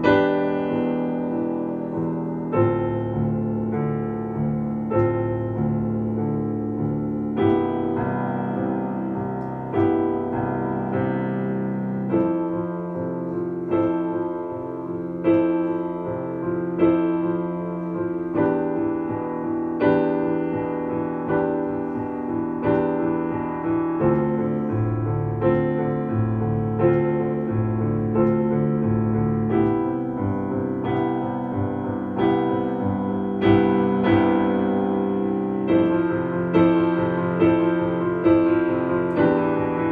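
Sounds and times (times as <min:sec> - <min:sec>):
slow solo piano piece: 0:00.0 - 0:39.9.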